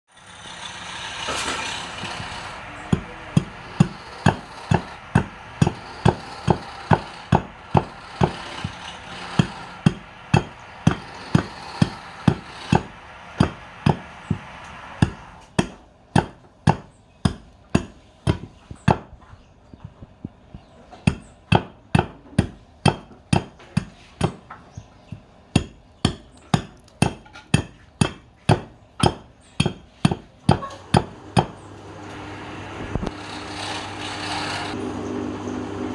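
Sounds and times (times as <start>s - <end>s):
sharp knocks: 0.6s - 31.6s.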